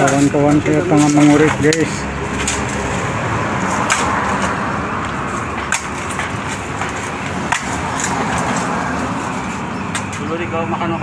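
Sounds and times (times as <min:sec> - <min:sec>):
shovels striking soil: 0:00.0 - 0:10.2.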